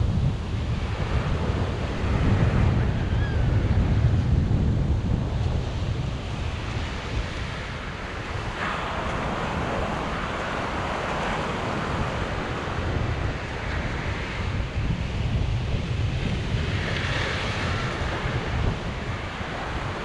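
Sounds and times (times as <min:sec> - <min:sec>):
sea waves breaking: 0:00.0 - 0:20.0
wind buffeting microphone: 0:00.0 - 0:20.0.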